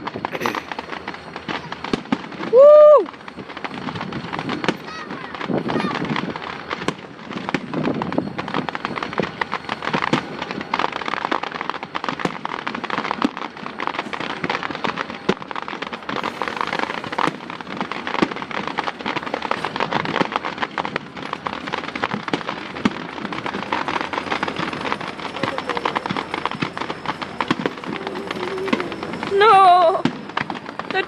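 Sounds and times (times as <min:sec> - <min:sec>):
fireworks crackling: 0:00.0 - 0:31.0
sharp firework bangs: 0:00.0 - 0:31.0.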